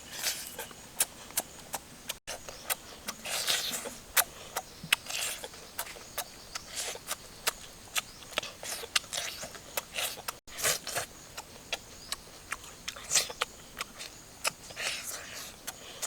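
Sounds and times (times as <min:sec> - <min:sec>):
wet chewing smacks: 0:00.2 - 0:16.0.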